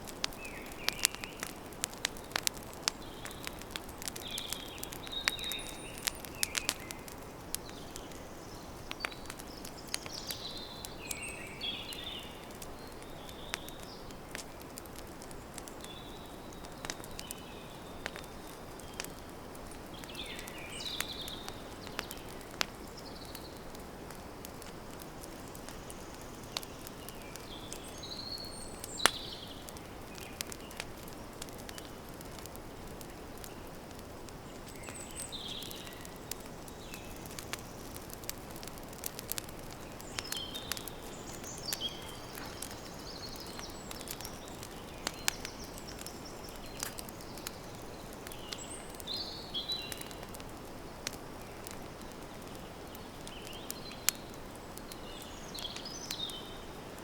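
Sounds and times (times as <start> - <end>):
campfire crackling: 0.0 - 57.0
small birds chirping: 0.0 - 57.0.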